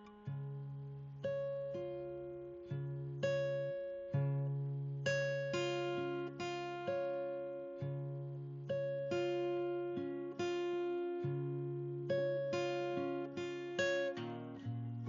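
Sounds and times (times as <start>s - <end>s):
slow acoustic guitar: 0.0s - 15.0s.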